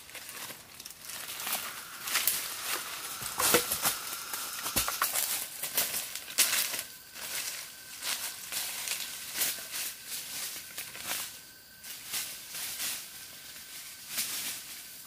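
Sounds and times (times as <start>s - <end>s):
dry leaves rustling and crunching: 0.0s - 15.0s.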